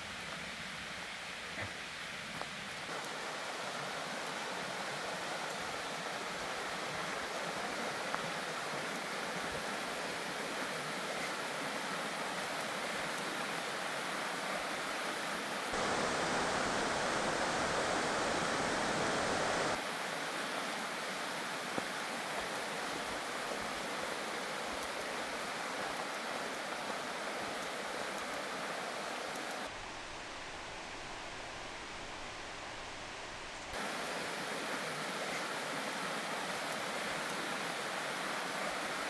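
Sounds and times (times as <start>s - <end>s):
mountain creek rushing: 0.0s - 39.0s.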